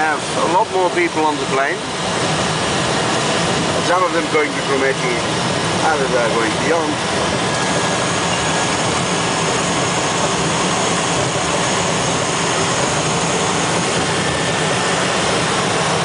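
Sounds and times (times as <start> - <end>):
turboprop engine drone: 0.0 - 16.0.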